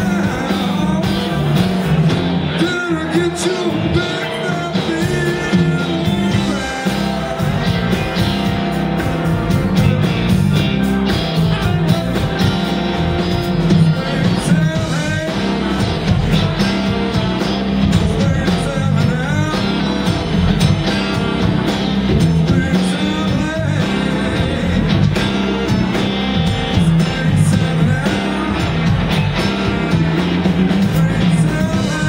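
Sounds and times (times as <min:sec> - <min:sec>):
blues-rock band playing: 0:00.0 - 0:32.0
lead guitar bending notes: 0:00.0 - 0:32.0.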